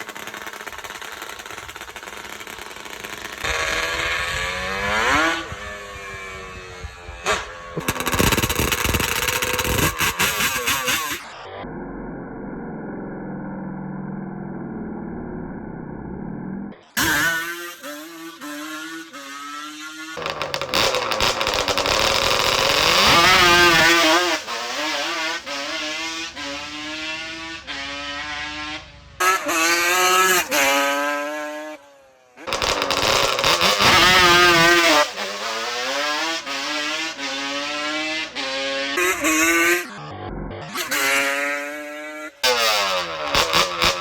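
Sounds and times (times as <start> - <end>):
two-stroke engine revving at full throttle: 0.0 - 11.3, 17.0 - 31.8, 32.4 - 40.0, 40.7 - 44.0.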